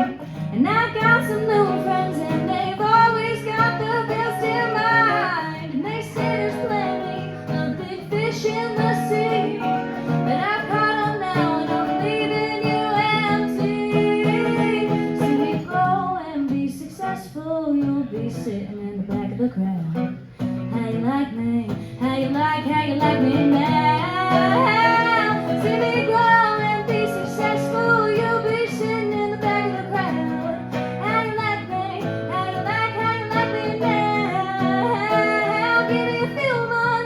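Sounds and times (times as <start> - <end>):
acoustic guitar: 0.0 - 37.0
woman singing: 0.0 - 37.0.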